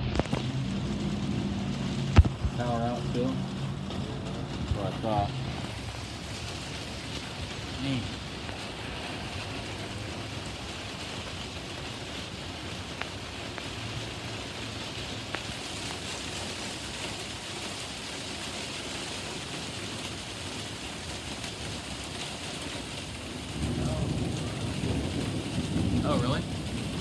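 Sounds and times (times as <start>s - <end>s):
rain pouring: 0.0s - 27.0s.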